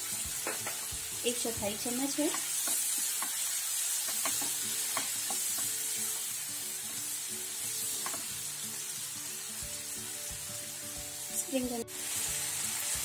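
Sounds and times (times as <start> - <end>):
mushrooms sizzling in a frying pan: 0.0 - 13.0.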